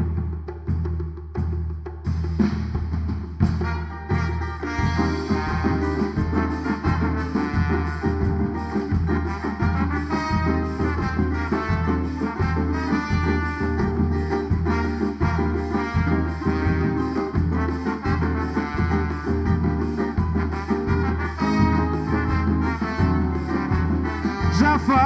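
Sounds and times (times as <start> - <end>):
steady drum beat: 0.0 - 25.0
live band playing: 2.0 - 25.0.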